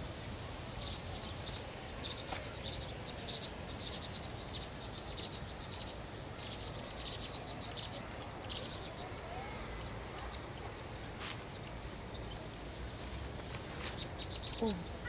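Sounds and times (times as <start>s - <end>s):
birds chattering alarm calls: 0.8s - 15.0s.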